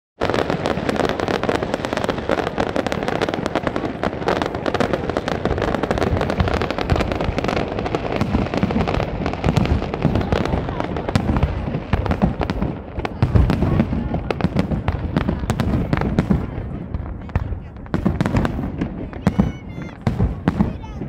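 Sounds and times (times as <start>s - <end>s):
fireworks cracking and banging: 0.2s - 21.0s.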